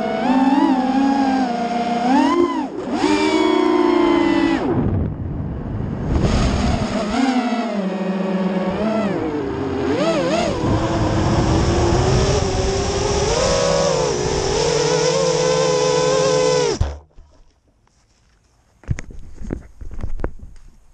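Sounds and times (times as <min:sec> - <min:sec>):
quadcopter motors whining: 0:00.0 - 0:16.9.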